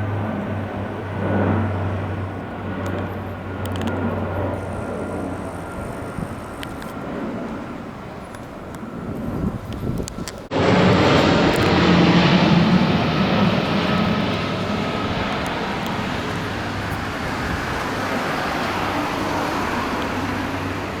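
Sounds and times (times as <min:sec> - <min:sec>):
military jet roaring overhead: 0:00.0 - 0:21.0.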